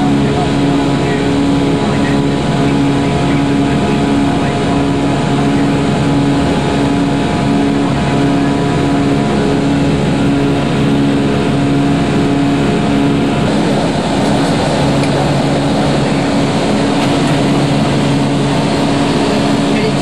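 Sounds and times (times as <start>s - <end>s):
airflow and jet engine noise: 0.0s - 20.0s
pulsing low hum: 0.0s - 20.0s.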